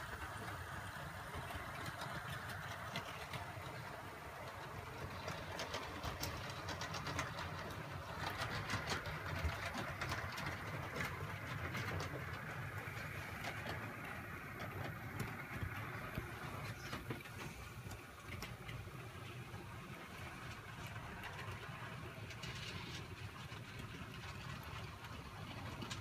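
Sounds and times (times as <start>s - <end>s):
wheels clicking on rails: 0.0s - 26.0s.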